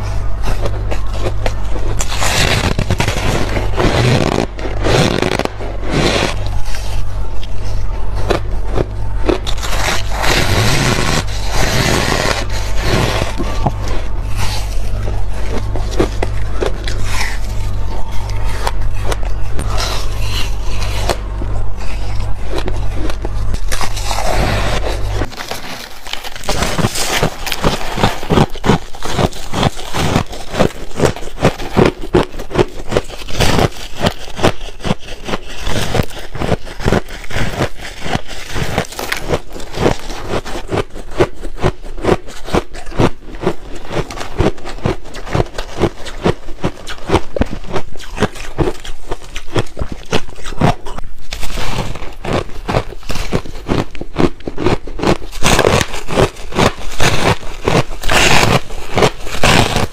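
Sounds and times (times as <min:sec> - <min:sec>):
ice being chewed crunching: 0:00.0 - 0:59.9.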